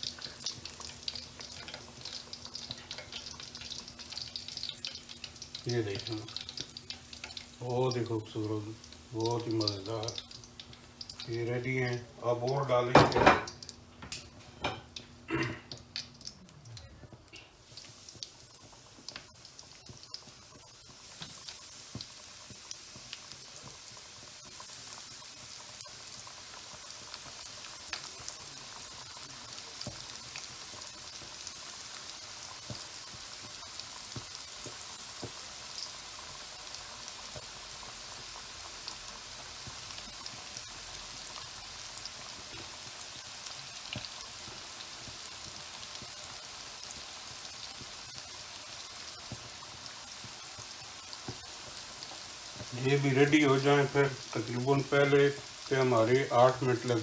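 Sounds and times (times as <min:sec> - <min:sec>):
food deep-frying in oil: 0:00.0 - 0:57.0.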